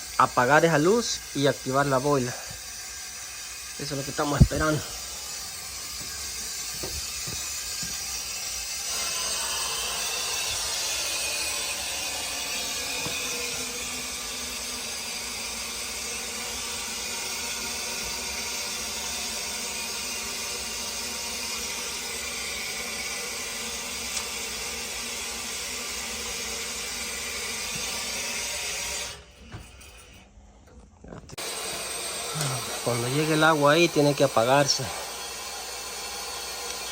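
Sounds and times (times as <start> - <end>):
water hissing into boiler: 0.0 - 30.2, 31.3 - 36.9.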